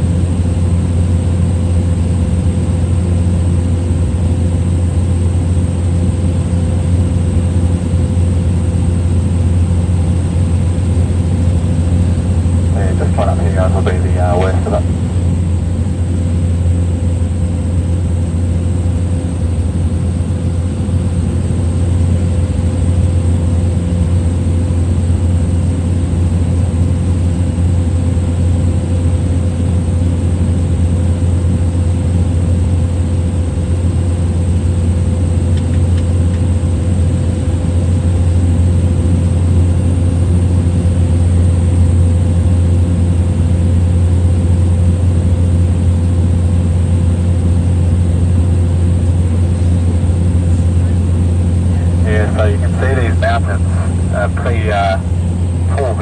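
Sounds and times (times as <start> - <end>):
small plane engine drone: 0.0 - 56.0.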